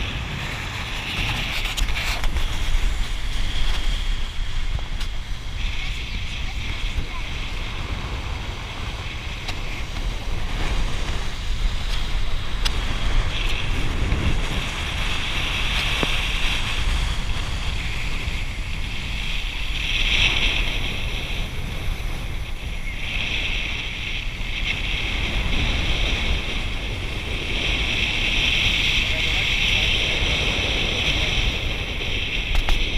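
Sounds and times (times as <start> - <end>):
speedboat engine rumble: 0.0 - 32.9
wind buffeting microphone: 0.0 - 32.9.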